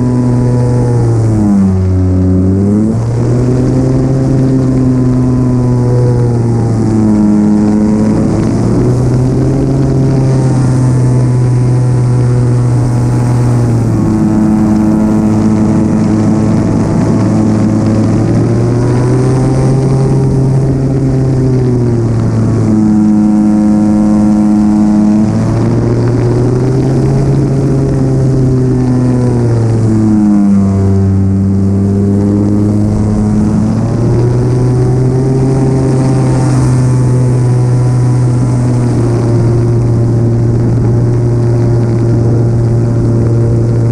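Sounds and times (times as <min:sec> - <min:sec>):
model airplane engine: 0:00.0 - 0:43.9
rush of air: 0:00.0 - 0:43.9.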